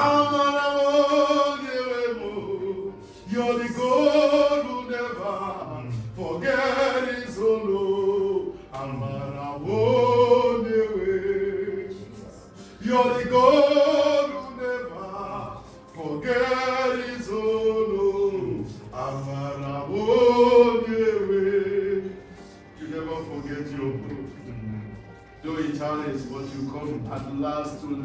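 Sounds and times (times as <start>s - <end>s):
gospel chorus singing: 0.0s - 28.0s
man singing: 0.0s - 28.0s.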